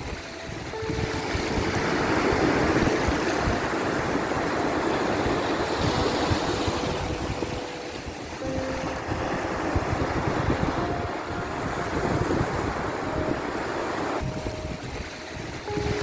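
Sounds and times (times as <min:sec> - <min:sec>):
sea waves rushing: 0:00.0 - 0:16.0.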